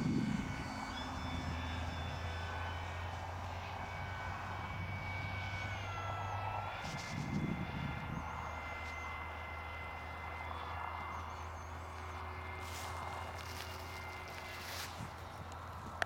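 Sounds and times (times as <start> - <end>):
propeller aeroplane engine whine: 0.0 - 16.0.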